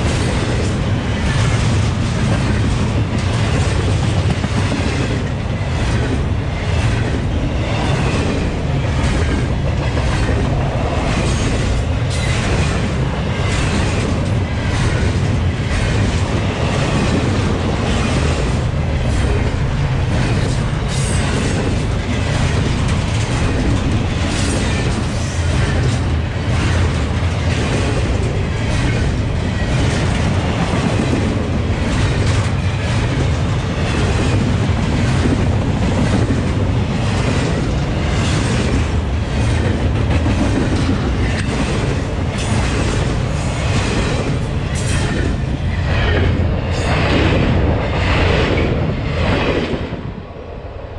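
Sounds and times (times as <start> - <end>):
train wheels rolling on rail: 0.0 - 50.9.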